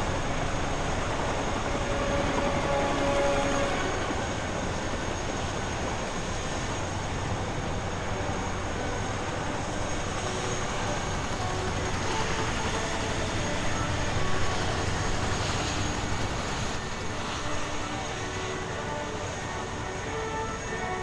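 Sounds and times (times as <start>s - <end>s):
helicopter turbines and rotors: 0.0s - 21.0s.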